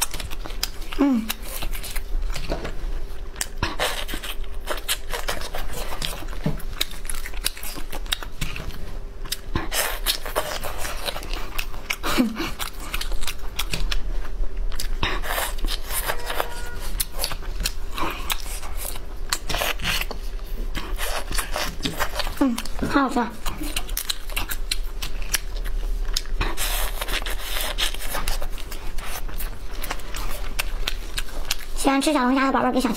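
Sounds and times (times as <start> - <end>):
sucking and chewing: 0.0 - 32.9.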